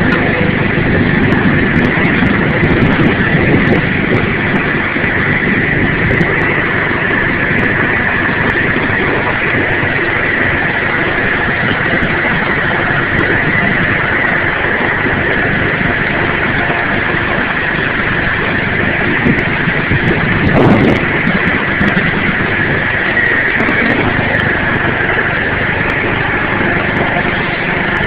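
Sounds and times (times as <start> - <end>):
snow-clearing machine engine: 0.0 - 28.0.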